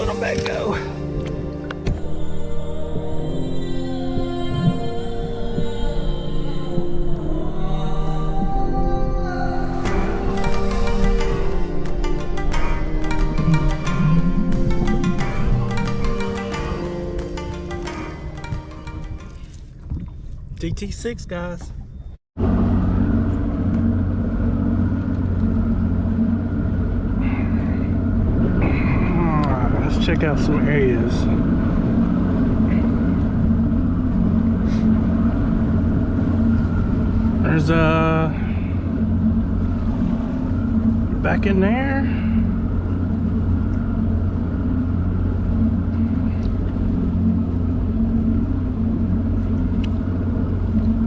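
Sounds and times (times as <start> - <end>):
outboard motor droning: 0.0 - 51.0.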